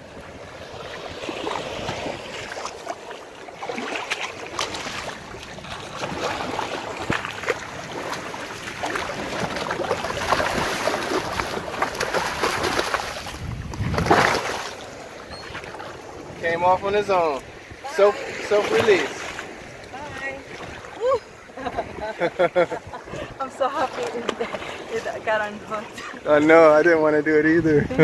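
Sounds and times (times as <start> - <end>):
small waves washing in: 0.0 - 26.9
water splashing: 0.0 - 26.9.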